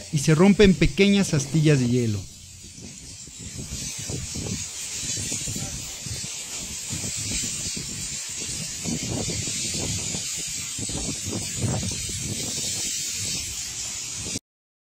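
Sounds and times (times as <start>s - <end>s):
ice shards crackling and tinkling: 0.0s - 14.4s.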